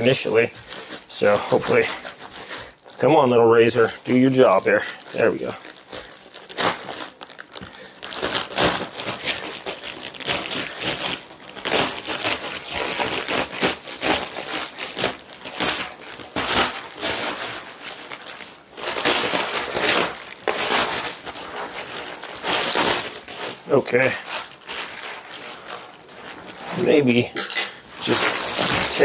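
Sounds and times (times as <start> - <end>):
plastic wrapping crinkling: 0.0 - 29.0.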